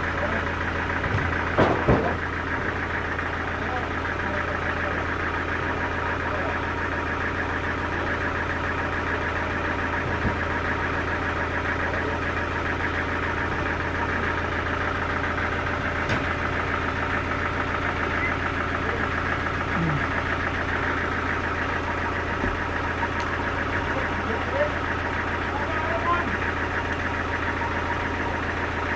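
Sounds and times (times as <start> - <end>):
engine running with pulsing beat: 0.0 - 28.9.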